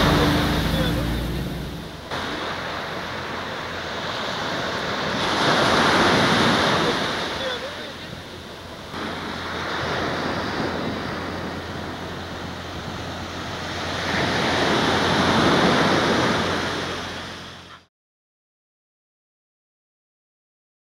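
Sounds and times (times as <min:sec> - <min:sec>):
ocean waves breaking: 0:00.0 - 0:17.8.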